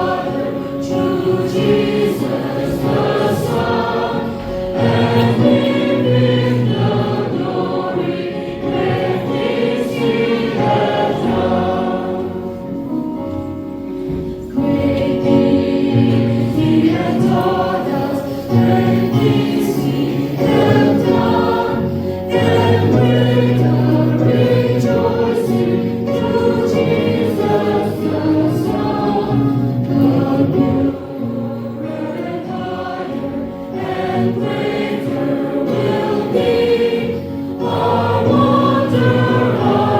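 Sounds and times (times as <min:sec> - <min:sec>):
choir singing a hymn: 0:00.0 - 0:39.9.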